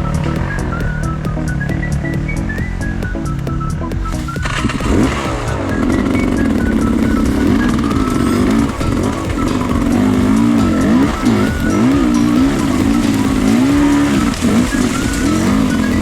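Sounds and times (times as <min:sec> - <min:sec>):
background music: 0:00.0 - 0:16.0
dirt bike engine revving: 0:00.0 - 0:16.0.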